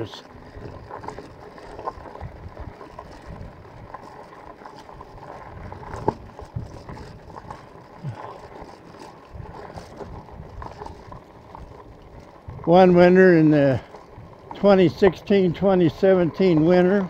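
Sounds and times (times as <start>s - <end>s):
bike knocking and rattling: 0.0s - 17.0s
tyre rumble on paved road: 0.0s - 17.0s.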